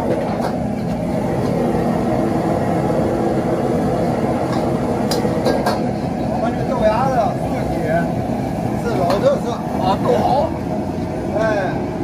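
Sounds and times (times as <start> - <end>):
gas burner and extractor roar: 0.0 - 12.0.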